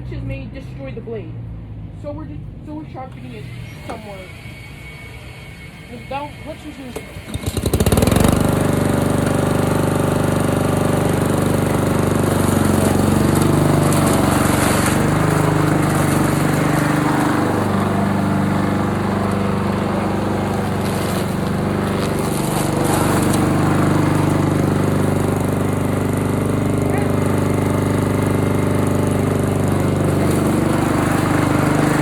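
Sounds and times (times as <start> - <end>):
lawn mower engine running: 2.9 - 32.0
mower shredding leaves: 6.1 - 32.0.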